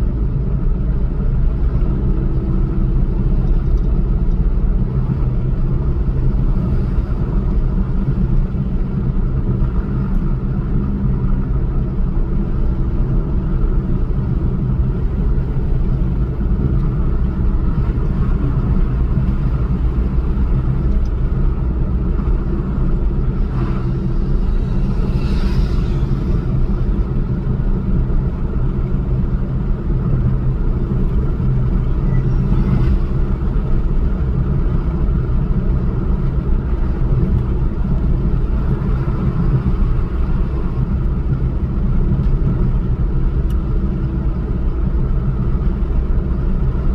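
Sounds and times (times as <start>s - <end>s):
vehicle engine and road rumble: 0.0s - 46.9s.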